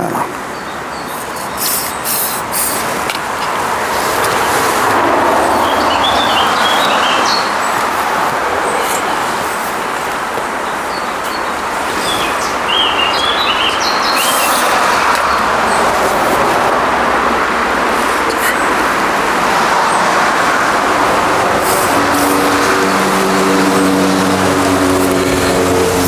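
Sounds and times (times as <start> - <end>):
birds chirping: 0.0 - 26.0
vehicle approaching: 0.0 - 26.0.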